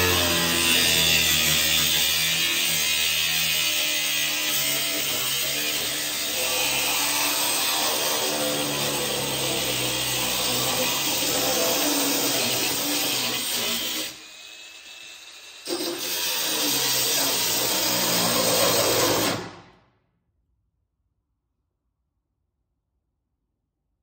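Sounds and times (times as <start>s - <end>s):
angle grinder cutting steel: 0.0s - 19.5s.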